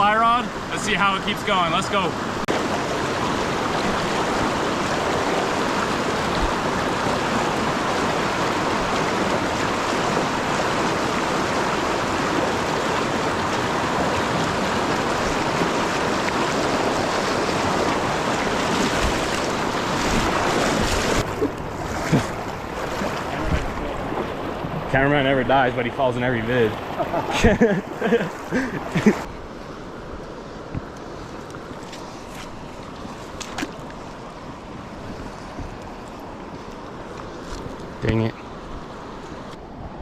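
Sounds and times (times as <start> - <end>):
creek water rushing: 0.0 - 40.0.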